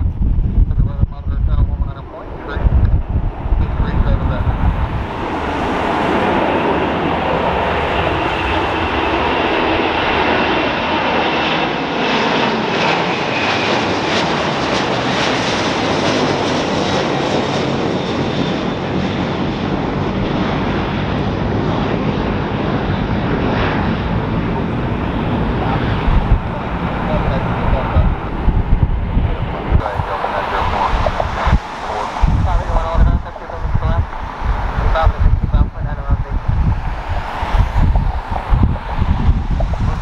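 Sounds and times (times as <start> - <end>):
high engine whine: 0.0 - 40.0
jet engine roar: 0.0 - 40.0.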